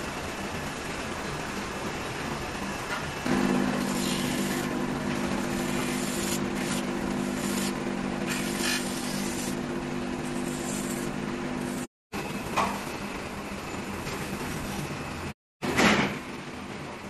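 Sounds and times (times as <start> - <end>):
workshop machine hum: 0.0 - 17.0.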